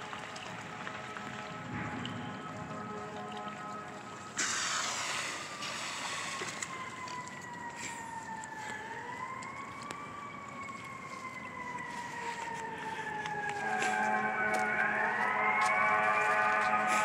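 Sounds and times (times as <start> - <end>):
emergency vehicle siren wailing: 0.0 - 17.0
water splashing: 0.0 - 17.0.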